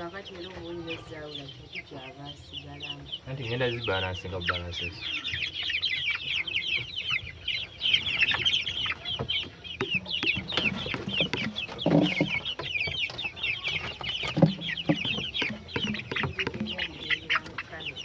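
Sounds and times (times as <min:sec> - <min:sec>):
poultry peeping: 0:00.0 - 0:18.0.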